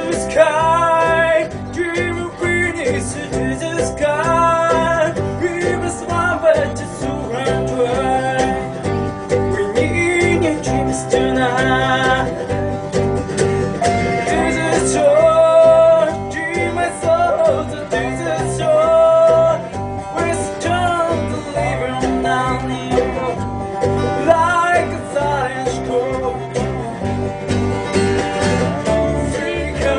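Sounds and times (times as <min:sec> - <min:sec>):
bluegrass band playing: 0:00.0 - 0:29.9
plucked strings picking quick notes: 0:00.0 - 0:29.9.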